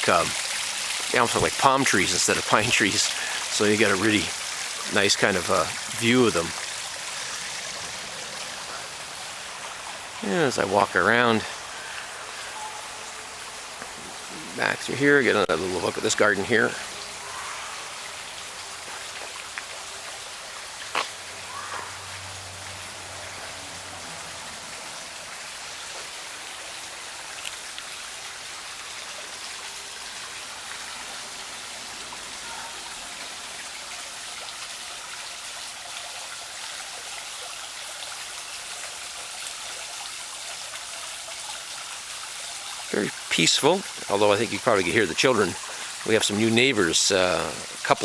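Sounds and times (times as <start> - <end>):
water trickling in a small waterfall: 0.0 - 48.0.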